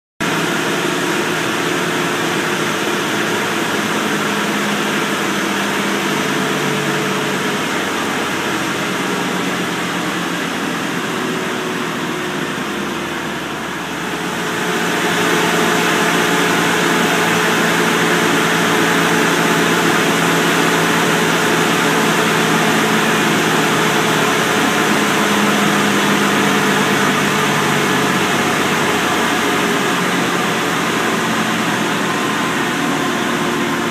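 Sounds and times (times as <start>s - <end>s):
diesel engine droning at high revs: 0.2s - 33.9s.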